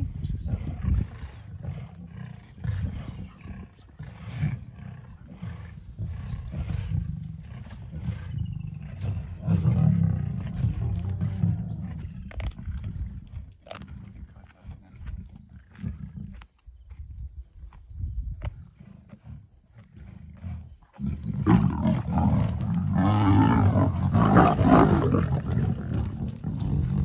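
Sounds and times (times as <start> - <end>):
lions growling: 0.0 - 16.4, 18.4 - 27.0.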